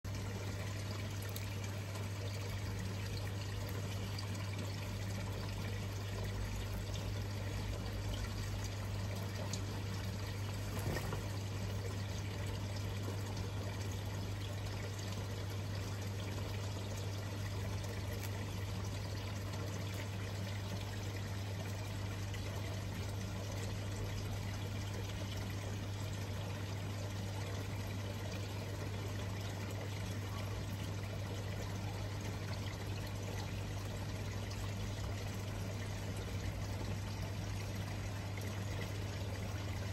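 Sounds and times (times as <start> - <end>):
low steady hum: 0.0 - 39.9
trickling water: 0.0 - 39.9.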